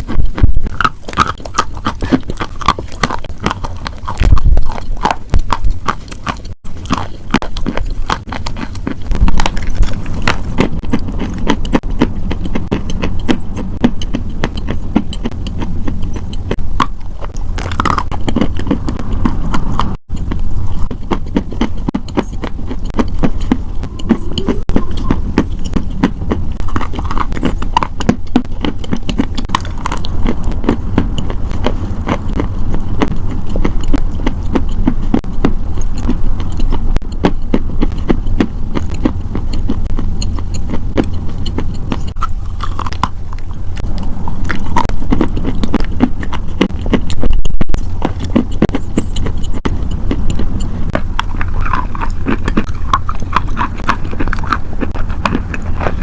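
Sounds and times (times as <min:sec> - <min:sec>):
crunching and chewing crisp food: 0:00.0 - 0:56.0
steady low hum: 0:00.0 - 0:56.0.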